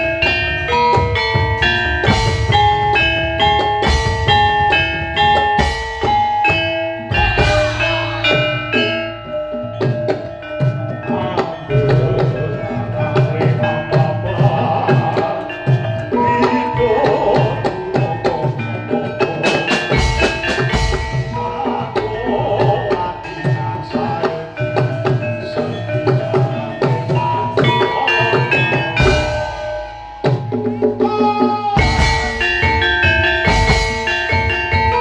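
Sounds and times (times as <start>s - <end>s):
steady drumming: 0.0s - 35.0s
struck metallophones melody: 0.0s - 35.0s.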